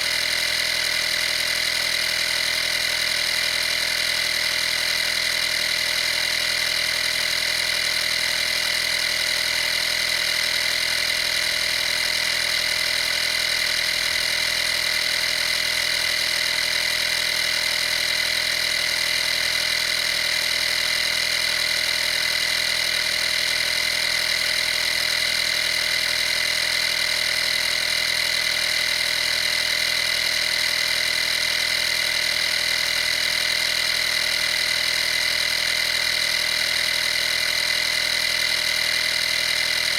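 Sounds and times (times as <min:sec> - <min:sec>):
air compressor whining: 0:00.0 - 0:39.9.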